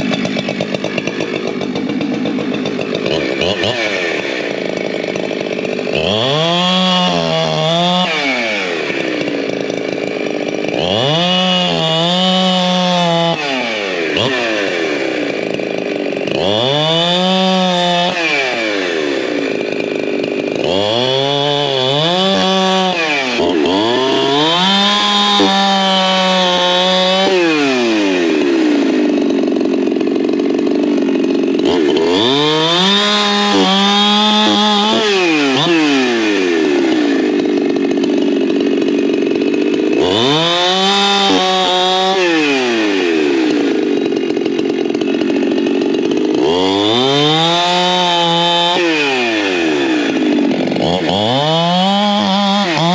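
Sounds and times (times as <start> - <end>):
chainsaw cutting log: 0.0 - 52.9
chainsaw revving and idling: 0.0 - 52.9.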